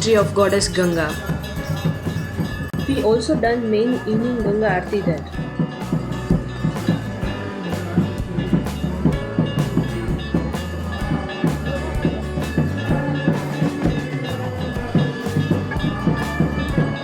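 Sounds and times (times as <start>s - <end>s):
fast steady drum beat: 0.0s - 17.0s
ringing metallic tones: 0.0s - 17.0s.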